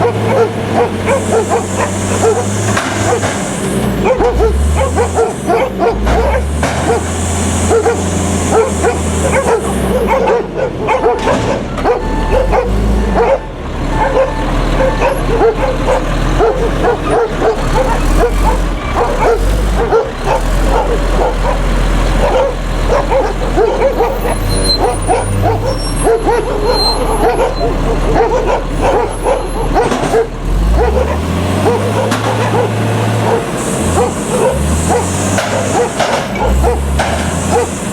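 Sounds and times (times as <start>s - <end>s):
dog barking rapidly: 0.0s - 37.9s
truck engine running: 0.0s - 37.9s.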